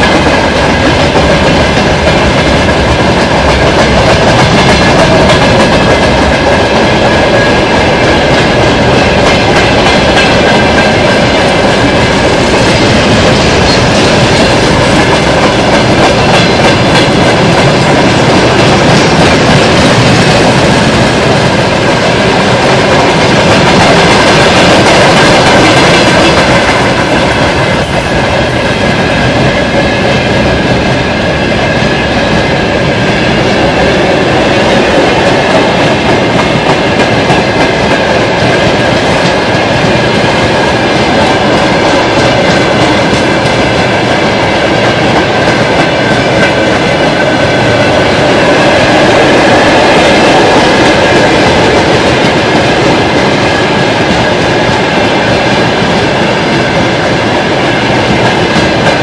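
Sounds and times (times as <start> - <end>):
train rumble: 0.0 - 59.0
train wheels clattering: 0.0 - 59.0.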